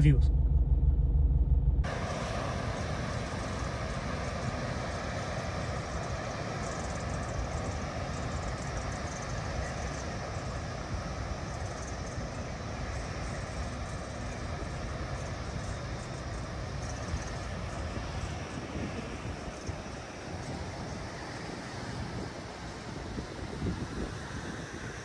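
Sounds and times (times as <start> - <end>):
vehicle rumble and hiss: 1.8 - 25.0.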